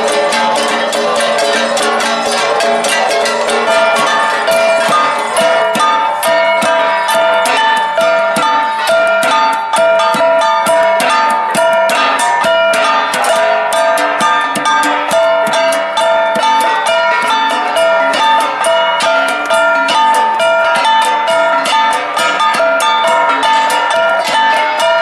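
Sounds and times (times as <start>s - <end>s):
gong ensemble playing: 0.0s - 25.0s.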